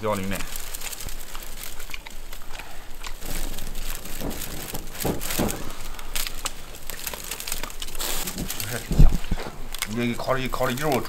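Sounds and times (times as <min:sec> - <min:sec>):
close chewing: 0:00.0 - 0:11.0
meat sizzling on a grill: 0:00.0 - 0:11.0.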